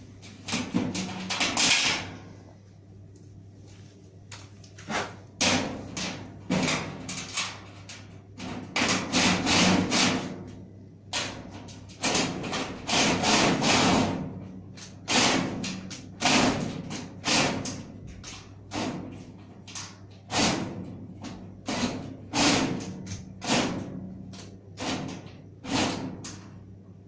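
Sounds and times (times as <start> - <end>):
knocks and thuds on metal panels: 0.5 - 2.2, 4.9 - 10.5, 11.1 - 26.5.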